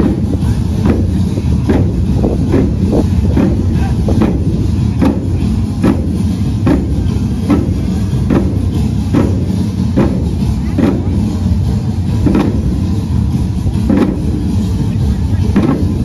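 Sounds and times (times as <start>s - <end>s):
low rumble: 0.0s - 16.0s
marching drums beating: 0.0s - 16.0s.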